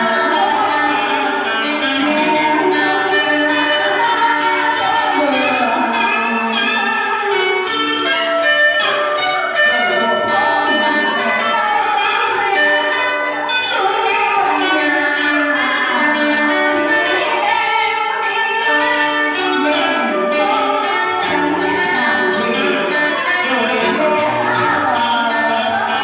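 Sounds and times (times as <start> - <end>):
song with singing voice: 0.0 - 26.0.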